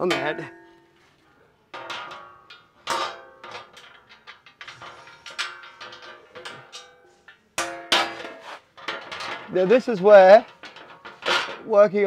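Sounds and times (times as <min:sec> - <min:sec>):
metal plate clanking: 0:00.0 - 0:01.1, 0:01.7 - 0:12.0.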